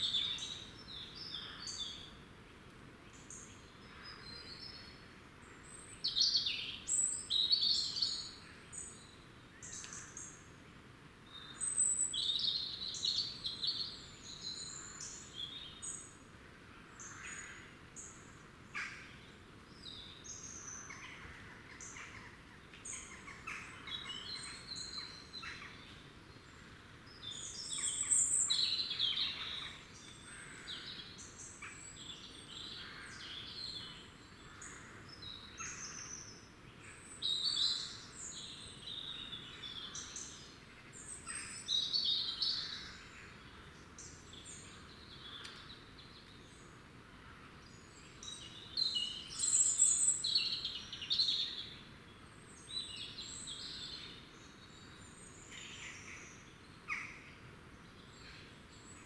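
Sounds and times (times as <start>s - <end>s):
songbirds twittering: 0.0s - 2.2s, 2.9s - 59.0s.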